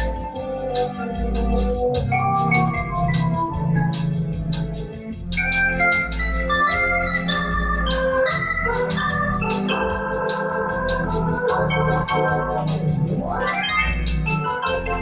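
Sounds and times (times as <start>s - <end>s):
electronic organ playing bossa nova: 0.0s - 15.0s
steady ticking beat: 0.0s - 15.0s.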